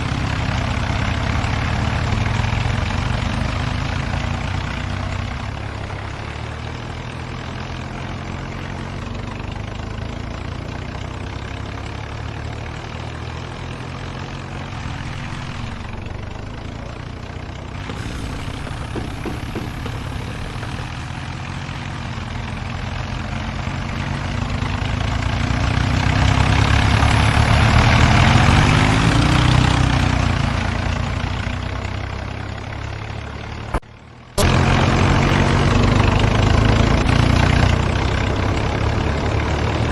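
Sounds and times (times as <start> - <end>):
tractor diesel engines labouring: 0.0 - 39.9.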